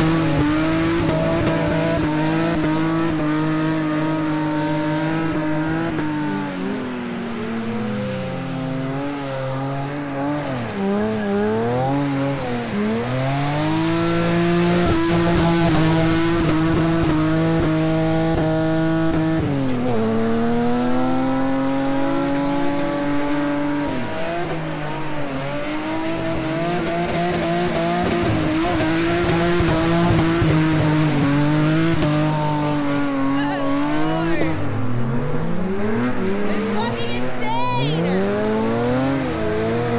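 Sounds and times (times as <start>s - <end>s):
car engine revving high: 0.0s - 39.9s.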